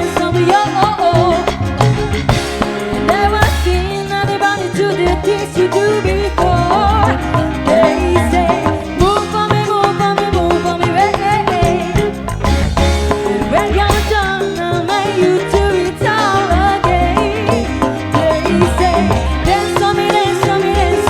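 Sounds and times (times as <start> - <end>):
bass: 0.0 - 21.0
lead melody: 0.0 - 21.0
steady drum beat: 0.0 - 21.0.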